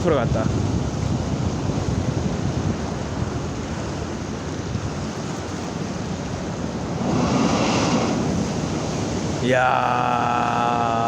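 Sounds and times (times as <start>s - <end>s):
surf breaking on shore: 0.0s - 11.0s
wind on microphone: 0.0s - 11.0s.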